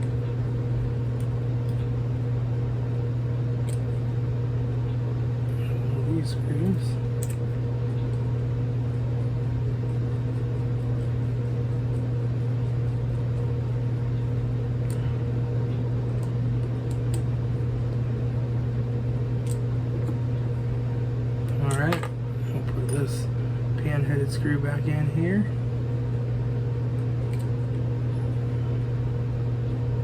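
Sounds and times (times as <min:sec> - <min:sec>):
machine fan hum: 0:00.0 - 0:30.0.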